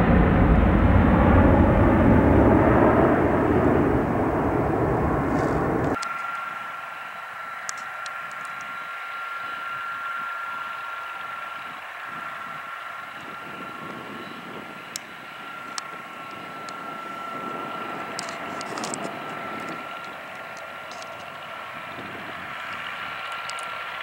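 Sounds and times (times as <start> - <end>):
turboprop engines idling: 0.0 - 24.0.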